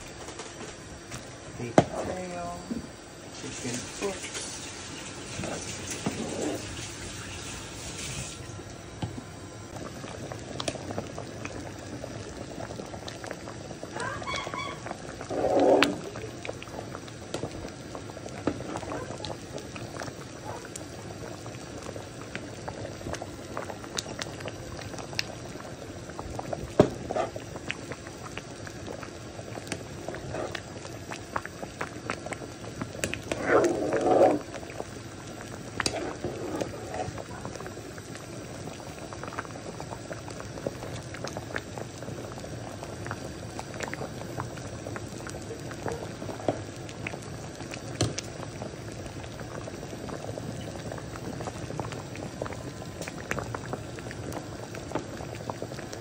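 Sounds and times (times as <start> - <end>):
soup boiling and bubbling: 0.0 - 56.0.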